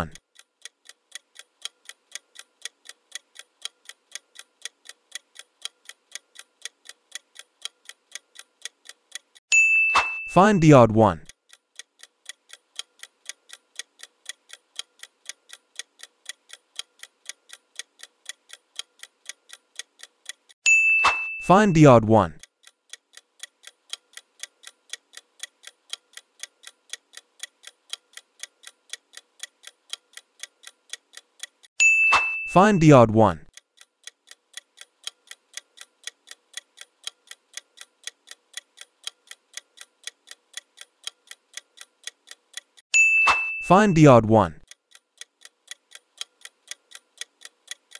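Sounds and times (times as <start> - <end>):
clock ticking: 0.0 - 47.9.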